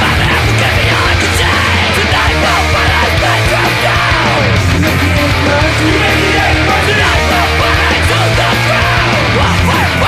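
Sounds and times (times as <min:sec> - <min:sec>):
distorted electric guitars: 0:00.0 - 0:10.0
punk metal band playing: 0:00.0 - 0:10.0.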